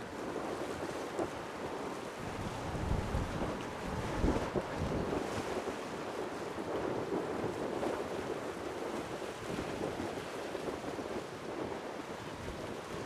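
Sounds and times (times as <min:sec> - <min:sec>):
sea waves washing: 0:00.0 - 0:13.0
wind on microphone: 0:00.0 - 0:13.0.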